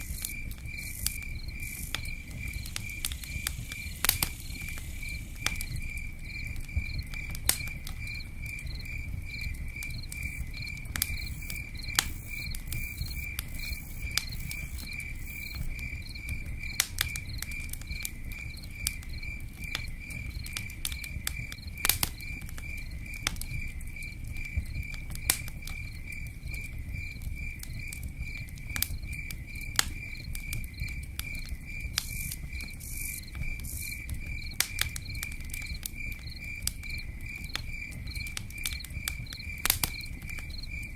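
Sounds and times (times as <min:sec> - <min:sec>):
campfire pops and crackles: 0:00.0 - 0:40.9
crickets chirping: 0:00.0 - 0:40.9.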